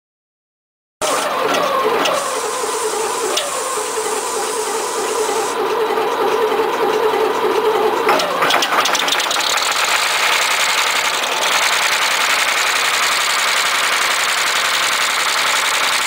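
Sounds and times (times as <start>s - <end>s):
diesel engine firing: 1.0s - 16.0s
starter motor cranking: 1.0s - 16.0s.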